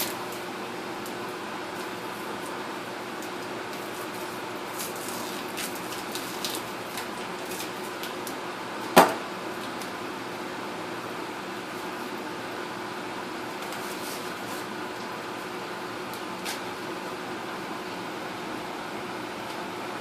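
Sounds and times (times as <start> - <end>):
fan-like hum: 0.0 - 20.0.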